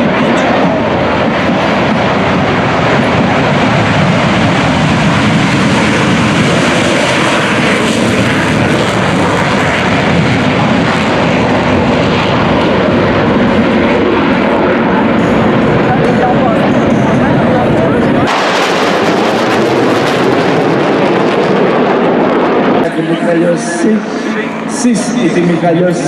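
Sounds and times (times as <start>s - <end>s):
aircraft engines roaring: 0.0s - 26.0s.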